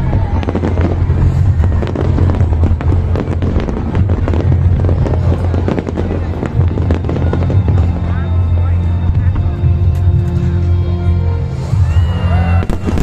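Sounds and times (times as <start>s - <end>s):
fireworks crackling and banging: 0.0s - 10.9s, 12.4s - 13.0s
low rumble: 0.0s - 13.0s.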